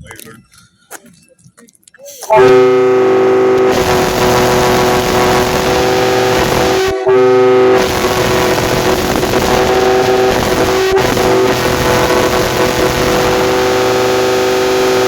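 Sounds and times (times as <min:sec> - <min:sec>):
train air horn chord: 0:02.3 - 0:15.0.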